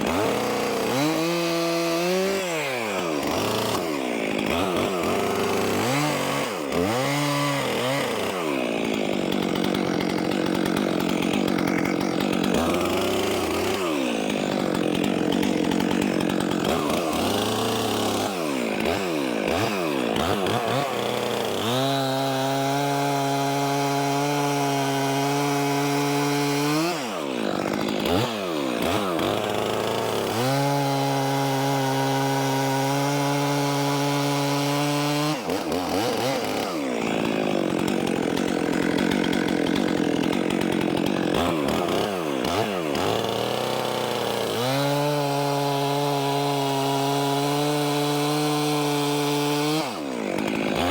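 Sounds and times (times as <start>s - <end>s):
chainsaw cutting logs: 0.0s - 50.9s.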